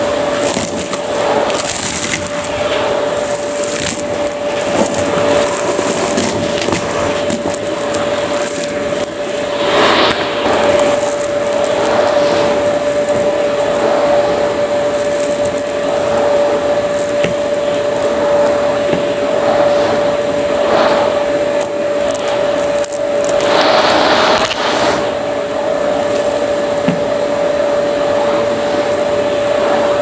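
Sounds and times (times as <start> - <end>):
debris sucked up hose: 0.0 - 30.0
vacuum cleaner running: 0.0 - 30.0.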